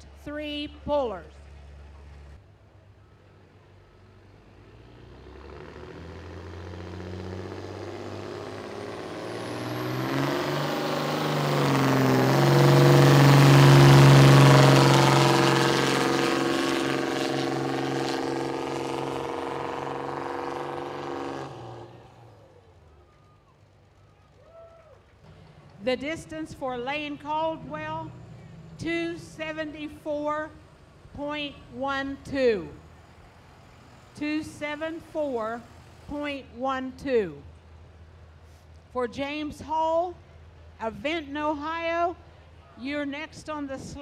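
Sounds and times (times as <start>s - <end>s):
diesel truck engine at full throttle: 0.0s - 24.4s, 25.1s - 38.8s.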